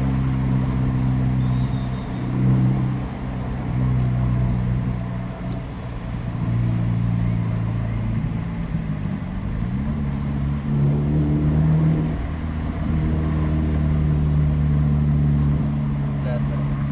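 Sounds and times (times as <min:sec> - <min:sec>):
car engine and exhaust droning: 0:00.0 - 0:16.9.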